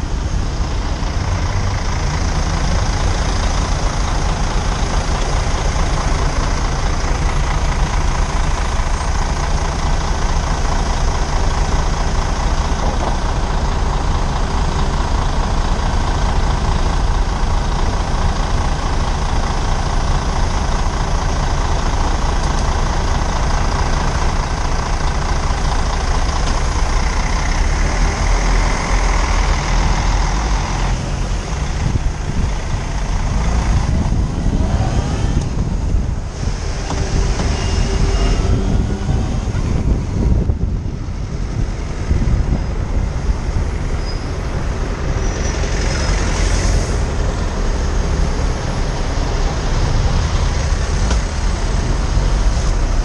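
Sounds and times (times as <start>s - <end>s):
vehicle engines idling: 0.0s - 53.0s.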